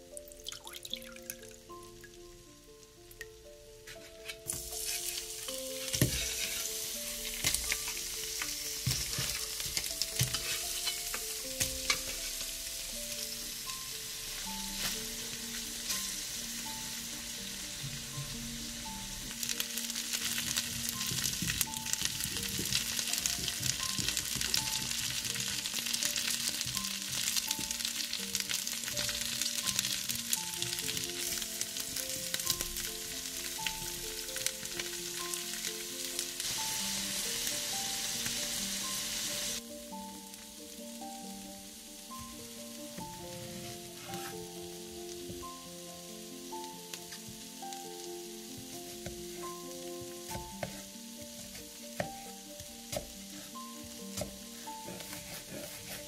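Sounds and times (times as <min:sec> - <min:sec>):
food sizzling in hot oil: 0:00.0 - 0:56.0
soft slow melody: 0:00.0 - 0:56.0.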